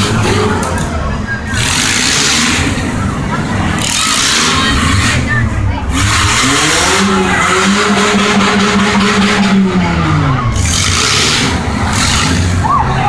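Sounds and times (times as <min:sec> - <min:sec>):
car engine revving: 0:00.0 - 0:13.0
other engines and tyre noise: 0:00.0 - 0:13.0.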